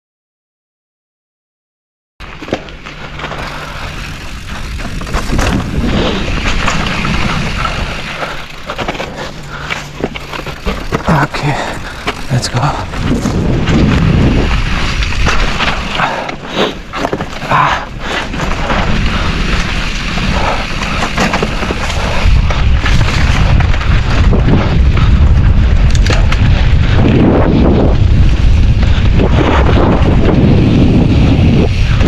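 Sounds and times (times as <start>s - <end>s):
bike knocking and rattling: 2.2s - 32.0s
wind buffeting microphone: 3.4s - 32.0s.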